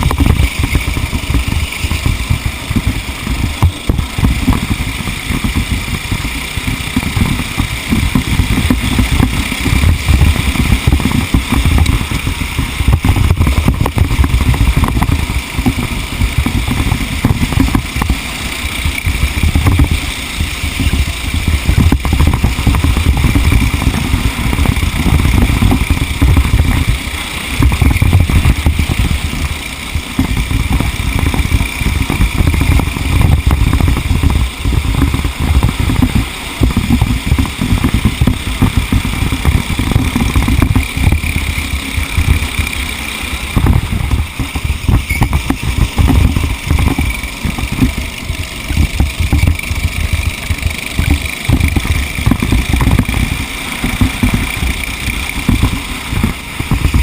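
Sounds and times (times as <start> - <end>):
racing engine running: 0.0 - 57.0
wind rumble on microphone: 0.0 - 57.0.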